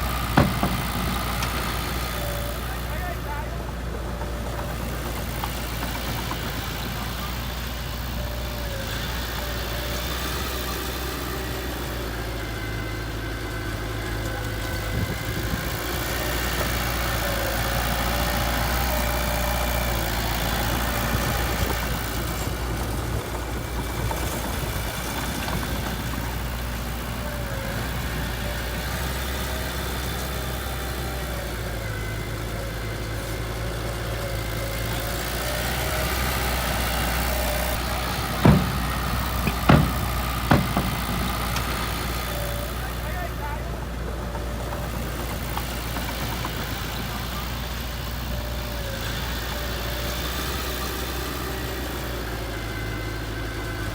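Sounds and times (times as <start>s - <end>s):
heavy machine engine idling: 0.0s - 53.9s.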